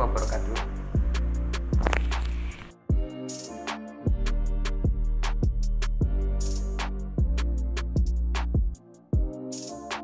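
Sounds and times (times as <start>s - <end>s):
music with drum beat and bass: 0.0s - 10.0s.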